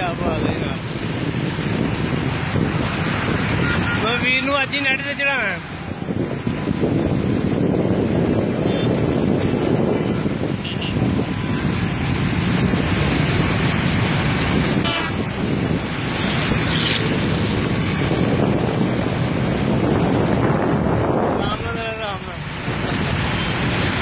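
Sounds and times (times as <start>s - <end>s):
wind on microphone: 0.0s - 4.1s, 5.6s - 24.0s
road traffic noise: 0.0s - 24.0s.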